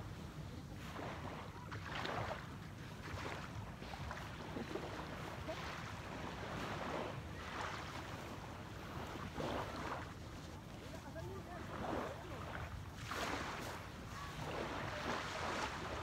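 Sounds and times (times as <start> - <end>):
moving sea water: 0.0 - 16.0.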